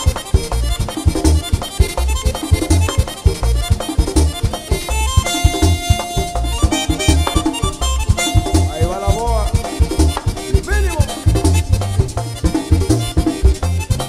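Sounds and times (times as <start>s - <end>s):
accordion playing: 0.0s - 14.0s
bass and percussion beat: 0.0s - 14.0s.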